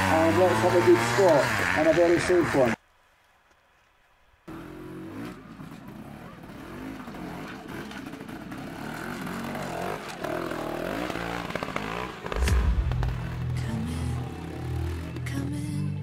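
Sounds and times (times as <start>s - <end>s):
motorcycle engine revving: 0.0s - 2.8s, 4.5s - 16.0s.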